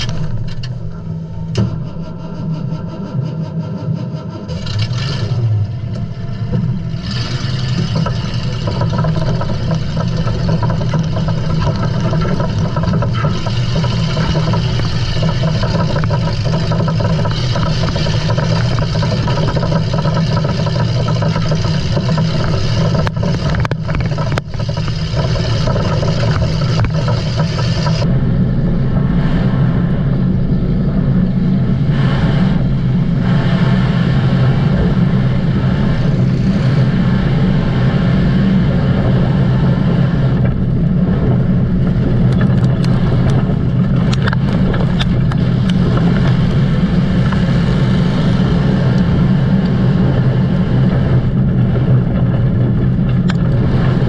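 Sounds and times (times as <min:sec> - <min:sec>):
vehicle engines running: 0:00.0 - 0:54.0.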